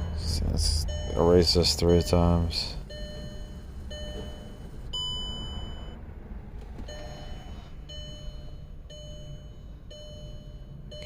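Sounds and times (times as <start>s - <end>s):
electronic warning chime: 0.0s - 6.0s, 6.9s - 11.0s
low steady hum: 0.0s - 11.0s.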